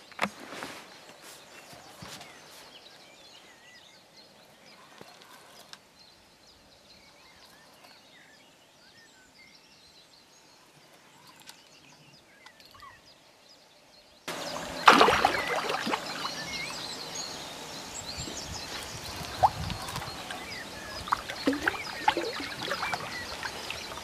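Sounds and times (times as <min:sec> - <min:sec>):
songbirds chirping and whistling: 0:00.0 - 0:24.0.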